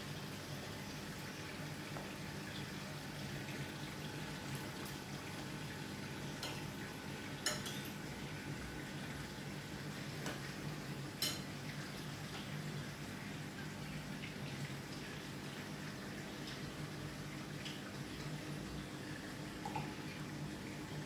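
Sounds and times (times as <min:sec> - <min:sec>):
water bubbling trickle: 0:00.0 - 0:21.0.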